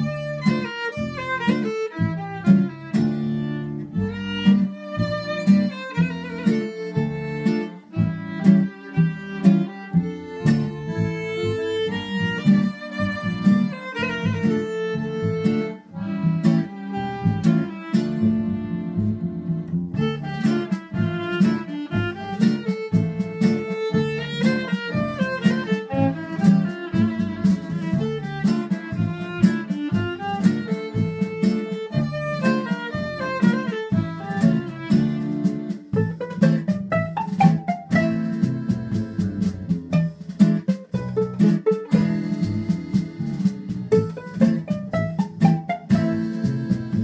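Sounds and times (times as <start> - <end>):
plucked string accompaniment: 0.0 - 47.0
violin melody: 0.0 - 47.0.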